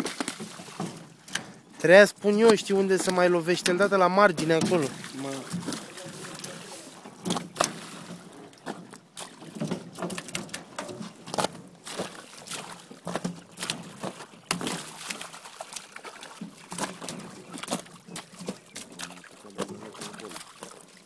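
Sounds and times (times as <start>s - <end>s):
fish slapping on wet tarp: 0.0s - 1.4s, 4.8s - 21.0s
fish splashing in water: 0.0s - 1.7s, 4.4s - 21.0s
water pouring and trickling: 0.0s - 21.0s.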